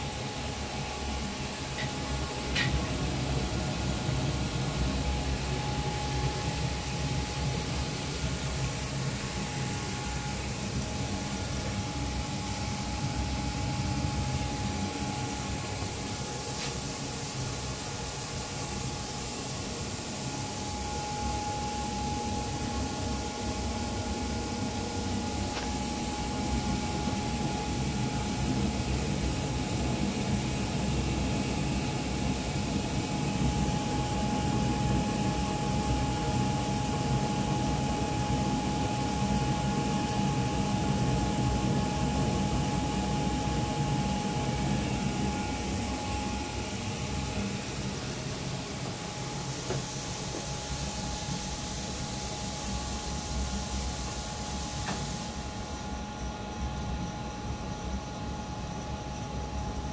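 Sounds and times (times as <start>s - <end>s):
high whine: 0.0s - 58.7s
machine hum and hiss: 0.0s - 59.9s.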